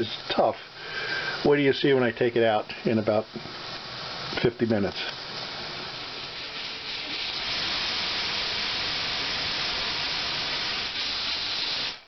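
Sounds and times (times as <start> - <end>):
pressure cooker steam hissing: 0.0 - 12.0.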